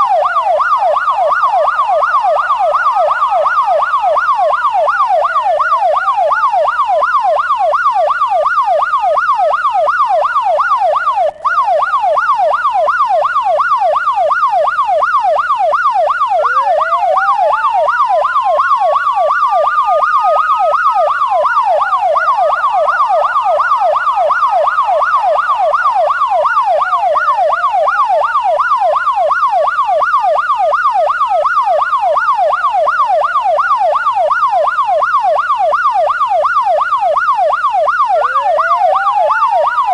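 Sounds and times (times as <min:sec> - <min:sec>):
siren wail: 0:00.0 - 0:39.9
siren yelp: 0:00.0 - 0:39.9.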